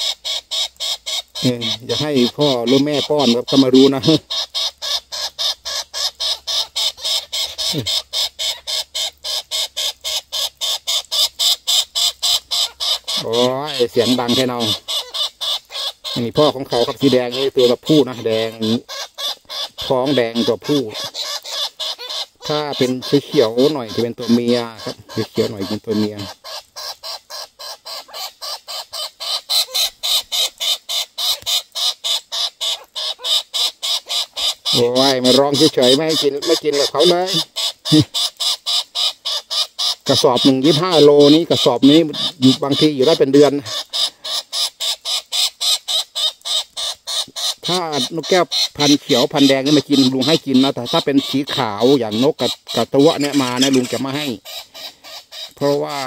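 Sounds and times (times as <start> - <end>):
parrot begging call: 0.0 - 56.0.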